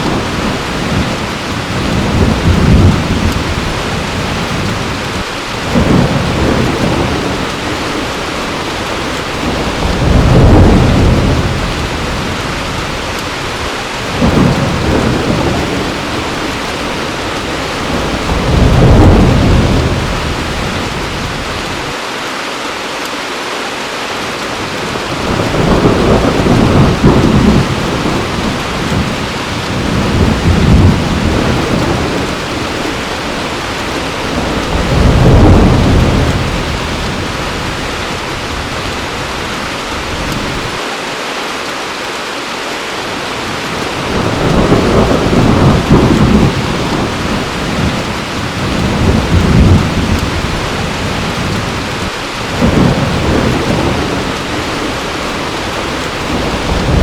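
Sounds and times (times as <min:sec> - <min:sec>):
thunder rumbling: 0:00.0 - 0:22.0, 0:24.6 - 0:40.8, 0:43.3 - 0:57.0
heavy rain: 0:00.0 - 0:57.0.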